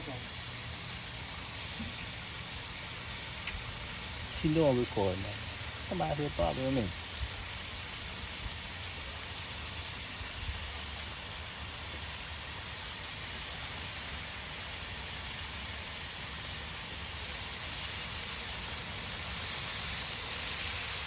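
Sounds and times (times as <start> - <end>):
bacon sizzling on a griddle: 0.0 - 21.0.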